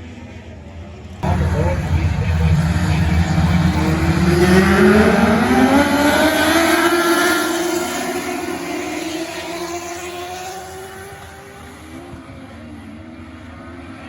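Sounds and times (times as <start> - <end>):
race car engines running hard: 1.0 - 14.0.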